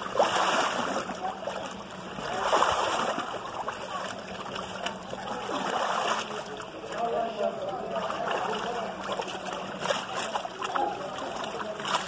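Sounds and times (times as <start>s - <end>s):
muddy liquid sloshing: 0.0s - 12.0s.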